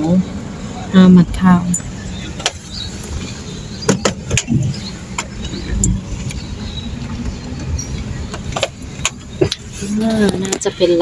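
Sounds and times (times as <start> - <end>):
car engine rumble from cabin: 0.0 - 11.0.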